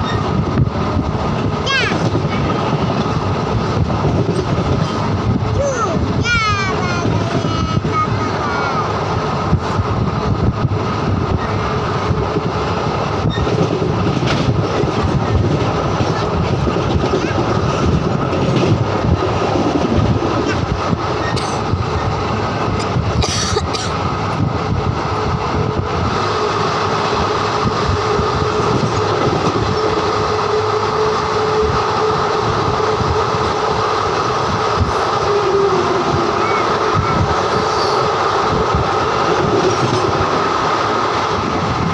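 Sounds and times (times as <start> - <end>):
train wheels rumbling on track: 0.0 - 41.9.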